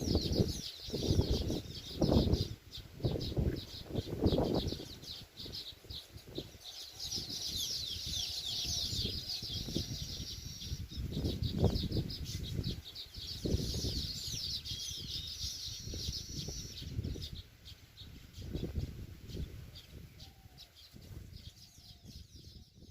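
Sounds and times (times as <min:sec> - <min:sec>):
weaver birds chattering: 0:00.0 - 0:22.9.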